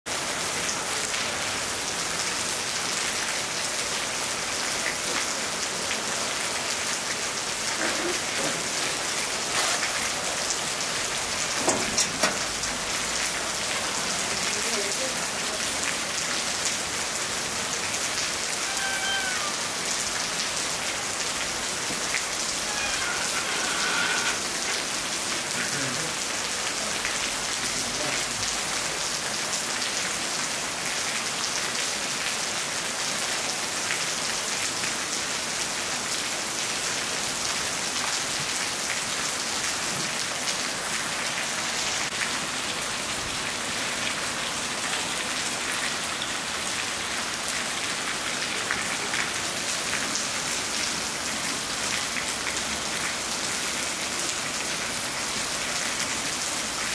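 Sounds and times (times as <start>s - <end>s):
steady rain falling: 0.1s - 56.9s.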